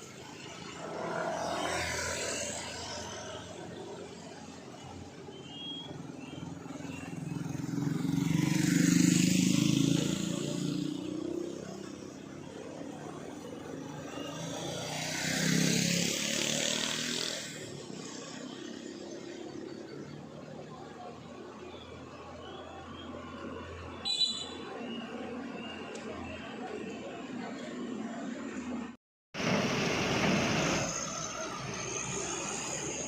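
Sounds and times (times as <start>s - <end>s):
vehicles driving past: 0.0s - 33.0s.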